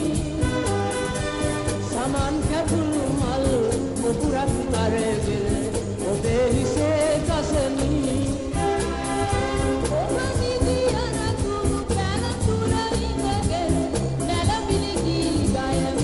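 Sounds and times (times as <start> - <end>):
person singing: 0.0 - 1.2, 1.8 - 16.0
instrumental accompaniment with beat: 0.0 - 16.0.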